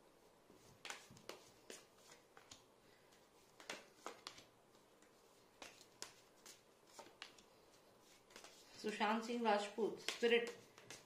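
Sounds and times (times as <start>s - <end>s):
cards being shuffled: 0.6s - 9.0s, 10.0s - 11.0s.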